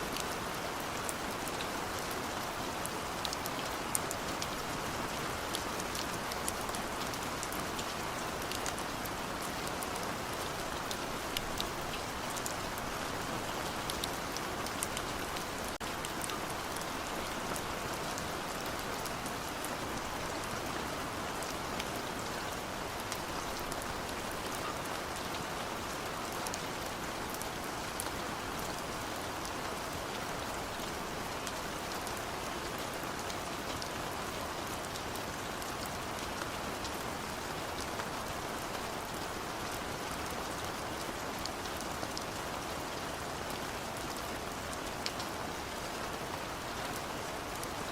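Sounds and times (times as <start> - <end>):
rain falling on a surface: 0.0 - 47.9.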